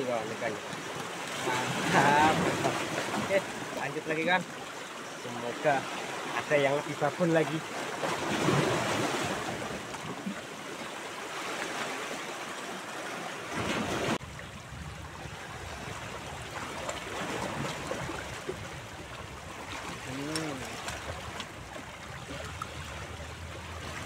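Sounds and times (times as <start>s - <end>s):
sea waves lapping against rocks: 0.0s - 24.0s.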